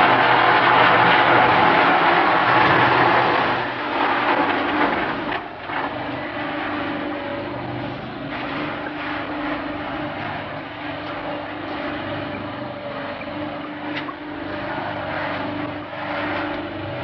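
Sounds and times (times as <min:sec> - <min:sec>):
roaster machinery humming: 0:00.0 - 0:17.0.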